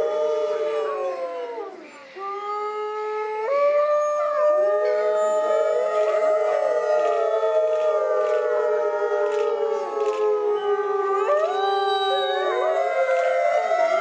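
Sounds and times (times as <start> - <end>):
wolves howling in chorus: 0.0 - 14.0.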